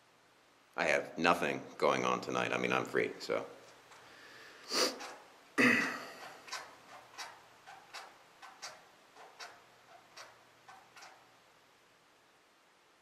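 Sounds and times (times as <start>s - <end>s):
faint uneven ticking: 1.7s - 12.3s.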